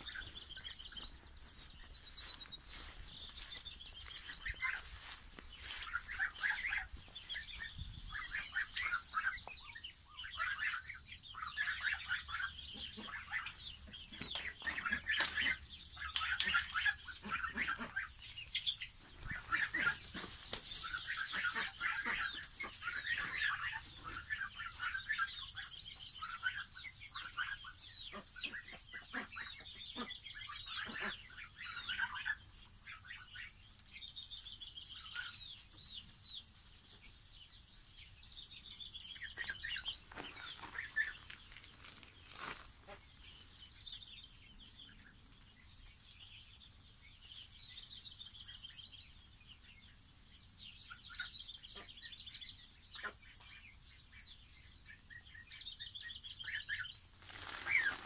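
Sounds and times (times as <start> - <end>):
chicks and ducklings peeping: 0.0 - 58.0.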